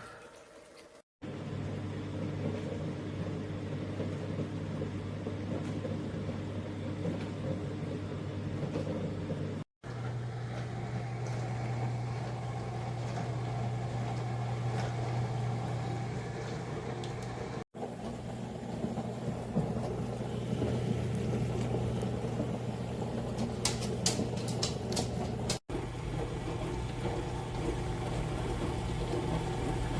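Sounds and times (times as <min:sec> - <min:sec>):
dishwasher motor hum: 0:00.8 - 0:29.9.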